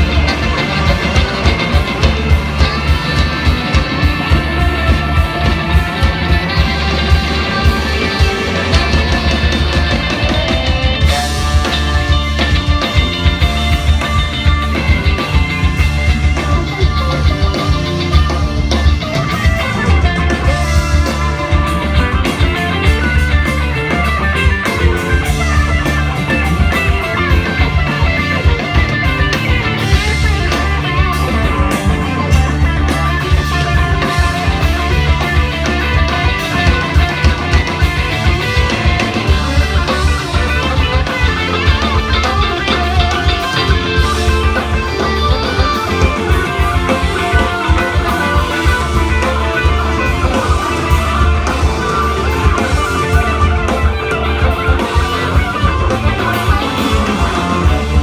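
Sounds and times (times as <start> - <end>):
drum kit beat: 0.0 - 58.0
electric guitar: 0.0 - 58.0
heavy bass line: 0.0 - 58.0.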